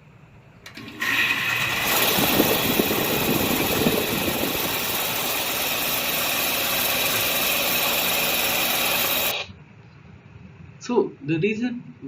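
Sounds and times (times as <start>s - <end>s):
air conditioner unit running: 0.0s - 12.0s.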